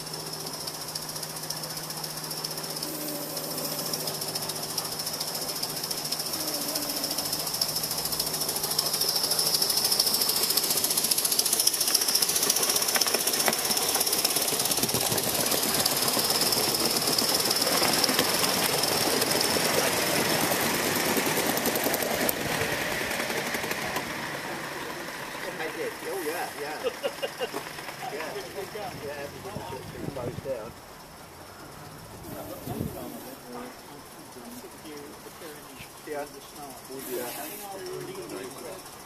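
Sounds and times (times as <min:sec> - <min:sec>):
model steam locomotive clatter: 0:00.0 - 0:39.0.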